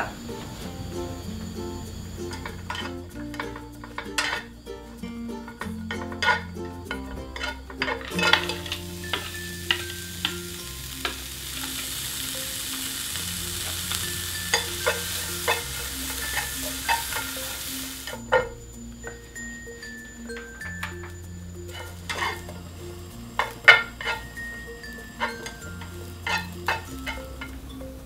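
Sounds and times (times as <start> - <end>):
food sizzling in a pan: 0.0 - 28.0
light background music: 0.0 - 28.0
utensils scraping a pan: 2.3 - 4.6, 5.4 - 18.6, 20.3 - 27.6.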